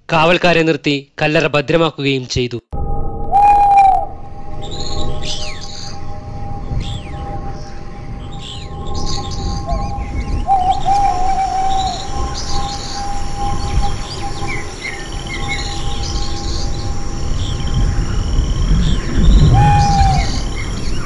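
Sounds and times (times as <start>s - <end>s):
steady low rumble: 2.8s - 21.0s
whistled bird note: 3.1s - 21.0s
birds chirping and twittering: 3.3s - 21.0s.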